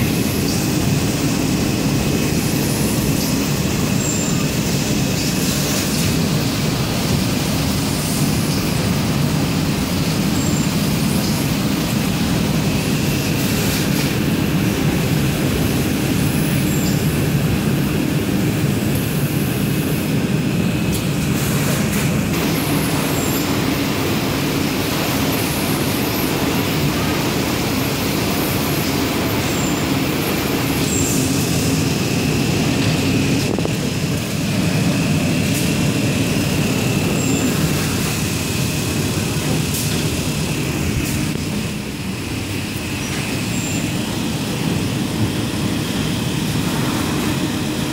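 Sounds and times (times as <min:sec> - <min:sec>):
machinery hum and rattle: 0:00.0 - 0:47.9.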